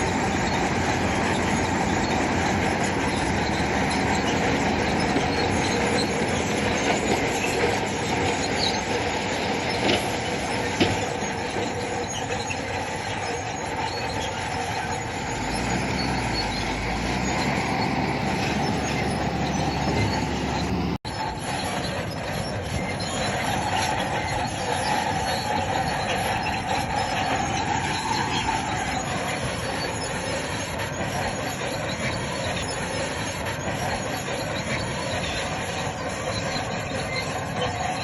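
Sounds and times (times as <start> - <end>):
diesel engine under load: 0.0 - 38.0
steel tracks clattering and squealing: 0.0 - 38.0.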